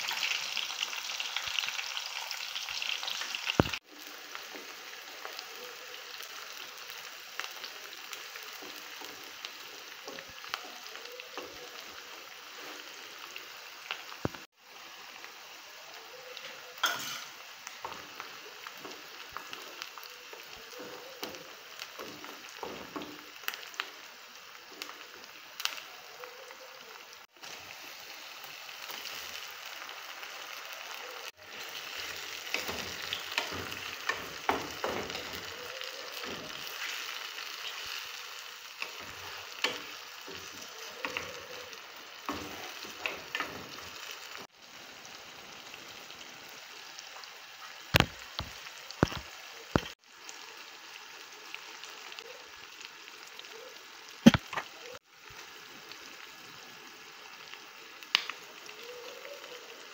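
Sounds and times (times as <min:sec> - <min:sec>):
onions frying in oil: 0:00.0 - 0:59.9.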